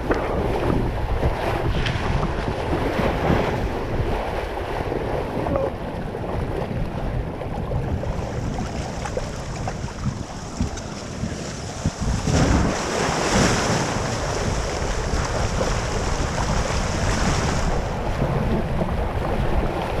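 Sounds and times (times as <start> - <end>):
water rushing and splashing: 0.0 - 20.0
wind buffeting microphone: 0.0 - 20.0.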